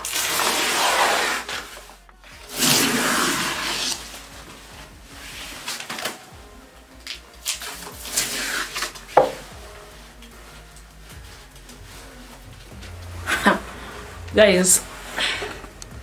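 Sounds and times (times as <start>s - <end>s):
wallpaper tearing and rustling: 0.0s - 6.4s, 7.0s - 15.8s.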